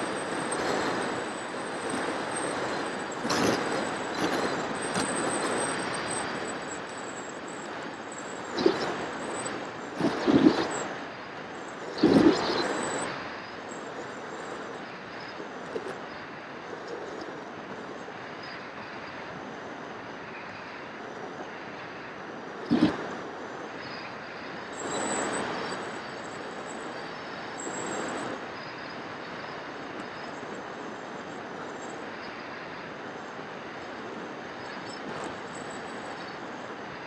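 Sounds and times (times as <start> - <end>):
electric motor and propeller whine: 0.0 - 37.0
wind gusts buffeting microphone: 0.0 - 37.0
wind rushing over microphone: 0.0 - 37.0.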